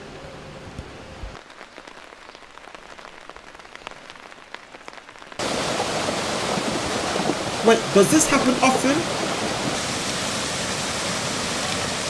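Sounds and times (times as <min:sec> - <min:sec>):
raindrops pattering: 0:00.7 - 0:12.0.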